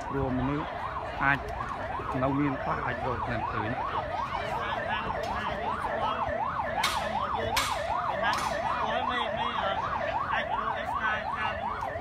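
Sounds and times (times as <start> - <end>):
siren fast yelp: 0.0 - 12.0.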